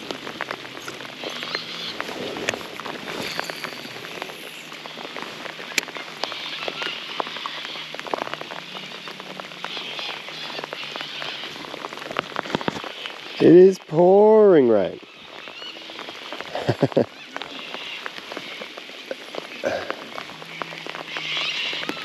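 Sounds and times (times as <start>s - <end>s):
raindrop taps: 0.0s - 14.0s, 14.9s - 22.0s
rain hissing on river: 0.0s - 22.0s.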